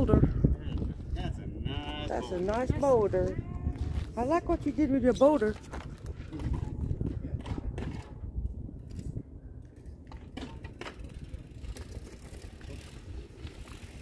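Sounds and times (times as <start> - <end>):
bike tyres rolling over rock: 0.4 - 14.0.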